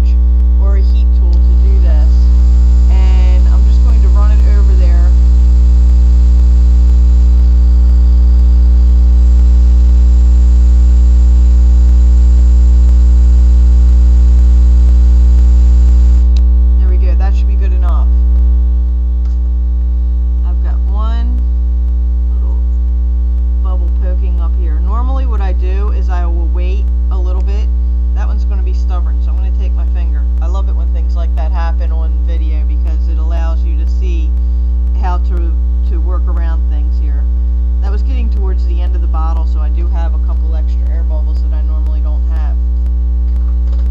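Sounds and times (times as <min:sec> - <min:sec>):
electrical mains hum: 0:00.0 - 0:43.9.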